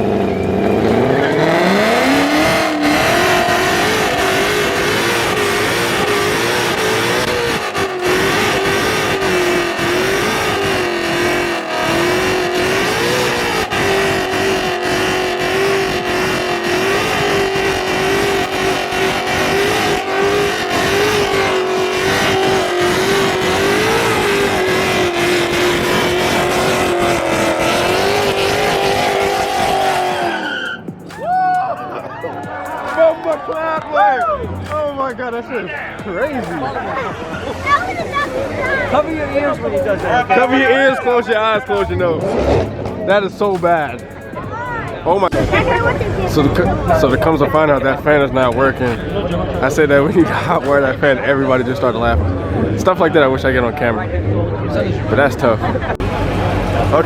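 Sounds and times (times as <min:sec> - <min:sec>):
engine revving loud: 0:00.0 - 0:31.2, 0:32.2 - 0:57.0
tyres squealing: 0:00.0 - 0:51.1.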